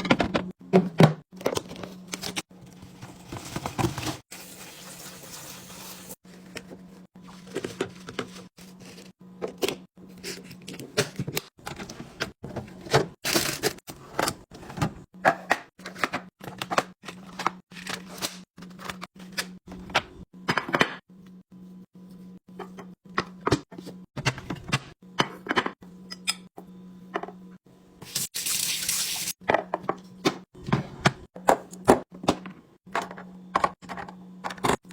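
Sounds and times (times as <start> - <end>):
refrigerator low hum: 0.0 - 34.9.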